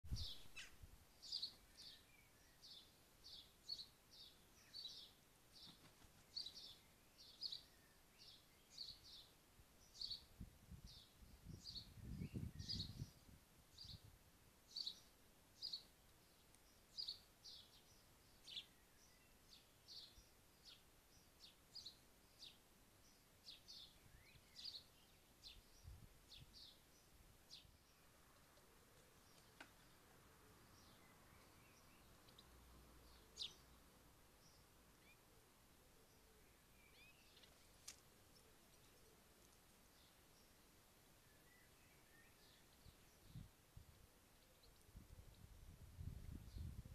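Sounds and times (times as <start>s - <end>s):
bird chirping: 0.1s - 14.1s, 14.7s - 43.6s, 44.2s - 46.8s.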